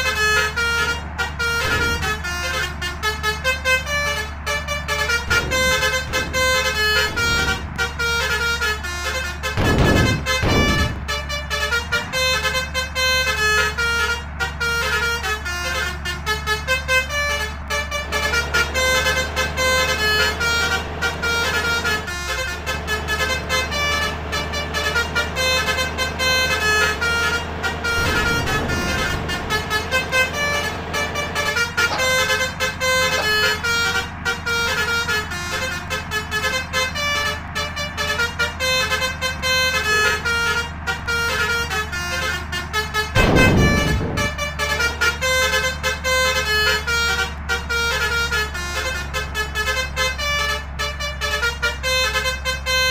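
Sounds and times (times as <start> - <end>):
multi-trumpet horn playing tune: 0.0 - 52.9
vehicle engine running: 0.0 - 52.9.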